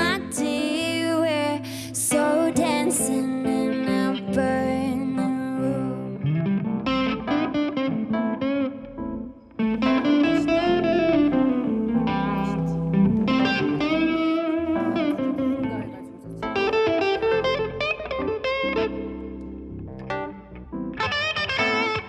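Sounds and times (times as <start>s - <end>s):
electric guitar solo: 0.0s - 22.0s.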